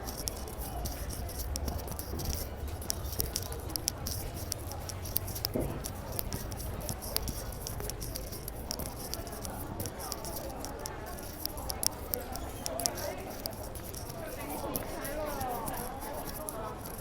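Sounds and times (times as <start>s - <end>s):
distant voices: 0.0s - 17.0s
sharp clicks and taps: 0.0s - 17.0s.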